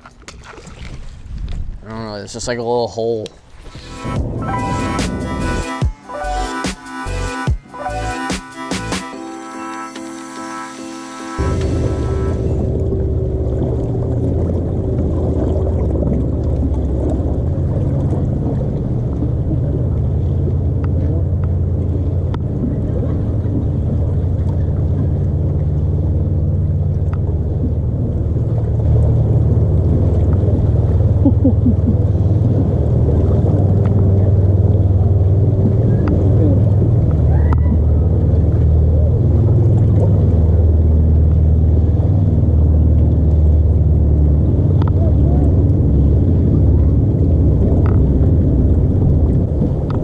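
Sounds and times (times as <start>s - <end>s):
wind: 0.0s - 5.5s, 12.6s - 50.0s
water noise aboard boat: 0.0s - 50.0s.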